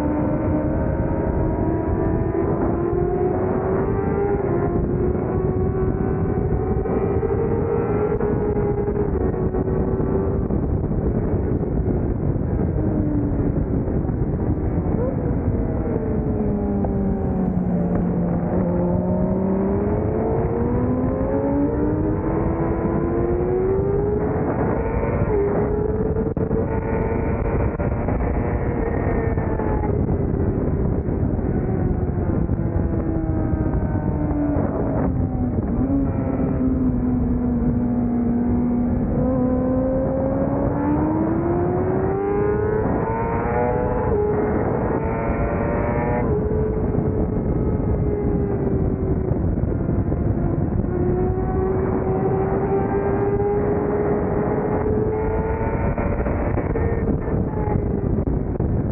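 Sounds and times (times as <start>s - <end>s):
race motorcycle engine: 0.0s - 58.9s
wind rush: 0.0s - 58.9s.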